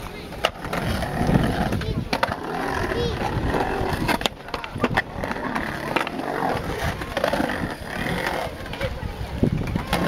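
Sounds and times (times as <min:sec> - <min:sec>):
people's voices: 0:00.0 - 0:10.0
skateboard clacks: 0:00.0 - 0:10.0
skateboard wheels rolling on concrete: 0:00.0 - 0:10.0.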